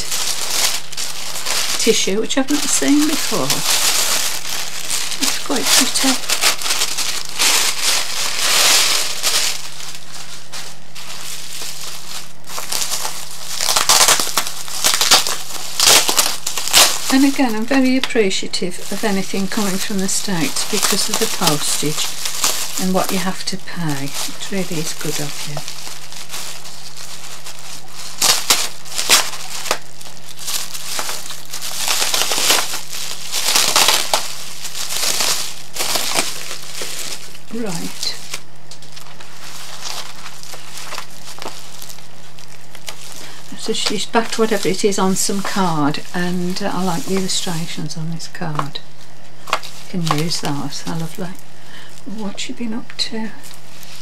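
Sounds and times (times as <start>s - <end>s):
tissue paper crinkling: 0.0s - 54.0s.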